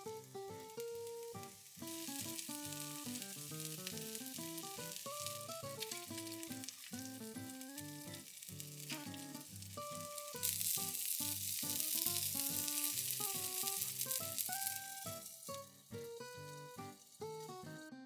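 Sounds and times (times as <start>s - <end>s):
meat patty sizzling in a pan: 0.0s - 17.9s.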